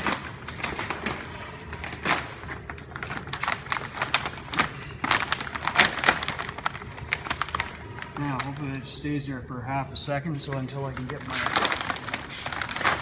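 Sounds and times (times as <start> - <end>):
plastic film crinkling: 0.0 - 9.0, 10.3 - 13.0.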